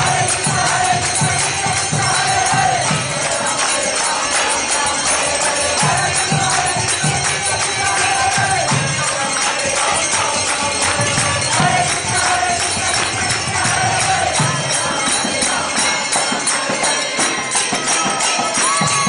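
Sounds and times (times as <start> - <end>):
group chanting: 0.0 - 19.0
people clapping: 0.0 - 19.0.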